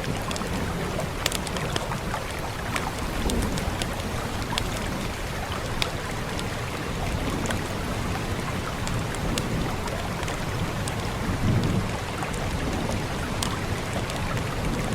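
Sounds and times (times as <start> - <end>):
wood fire crackling: 0.0 - 12.3
steady rain: 0.0 - 14.9.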